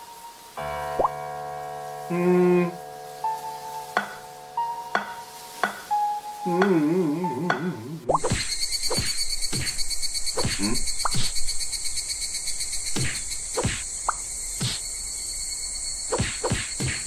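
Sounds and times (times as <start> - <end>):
pulsing insect chorus: 0.0 - 17.0.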